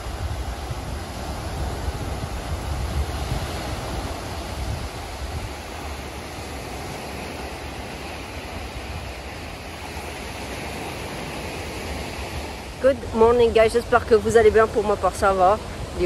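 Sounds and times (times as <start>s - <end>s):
small waves washing on shore: 0.0s - 16.0s
wind rumbling on microphone: 0.0s - 16.0s.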